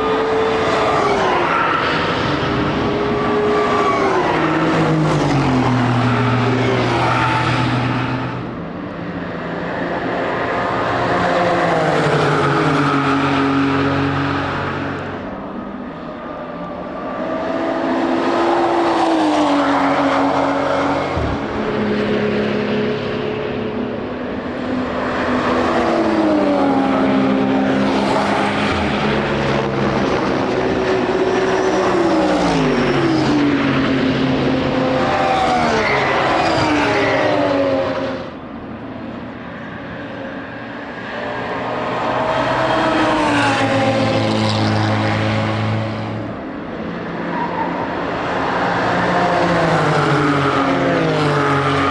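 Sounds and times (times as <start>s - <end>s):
race cars passing: 0.0s - 51.9s.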